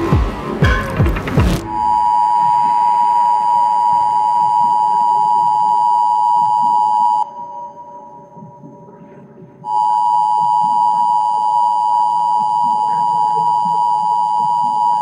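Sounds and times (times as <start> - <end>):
electronic beep tone: 0.0 - 8.4, 9.6 - 15.0.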